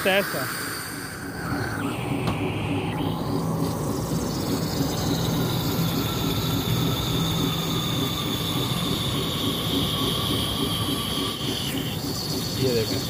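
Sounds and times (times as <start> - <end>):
air hissing and whistling from valve: 0.0 - 13.0.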